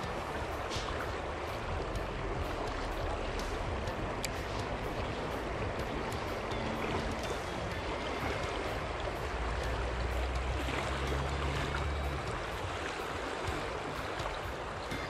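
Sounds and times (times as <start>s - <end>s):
low rumble: 0.0s - 14.4s
flowing river rushing: 0.0s - 15.0s.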